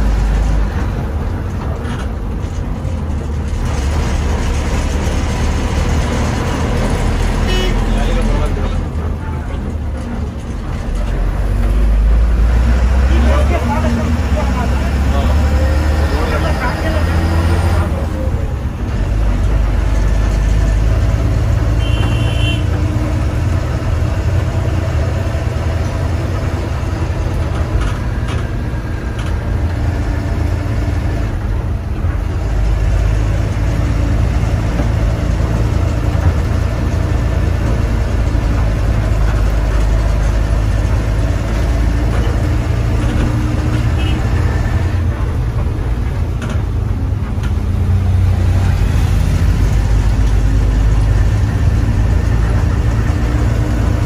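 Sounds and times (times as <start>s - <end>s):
bus diesel engine rumble: 0.0s - 54.0s
road and tyre noise: 0.0s - 54.0s.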